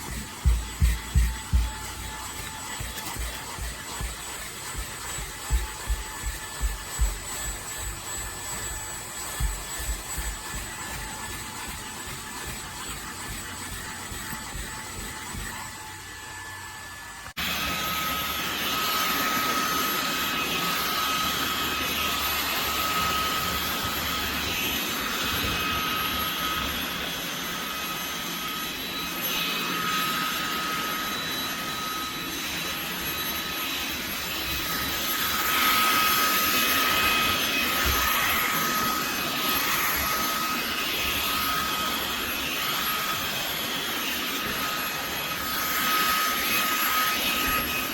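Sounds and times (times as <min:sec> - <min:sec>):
handheld vacuum running: 0:00.0 - 0:47.9.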